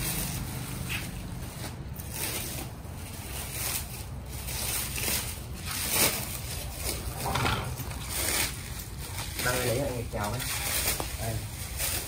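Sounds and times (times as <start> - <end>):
packing tape peeling: 0.0 - 12.0
plastic packaging crinkling: 0.0 - 12.0.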